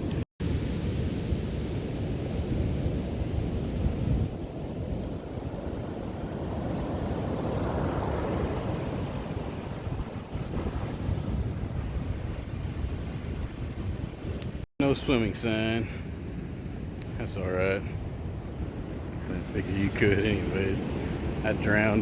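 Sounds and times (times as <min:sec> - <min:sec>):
wind buffeting microphone: 0:00.0 - 0:14.6, 0:16.1 - 0:22.0
ocean surf breaking on beach: 0:00.0 - 0:22.0.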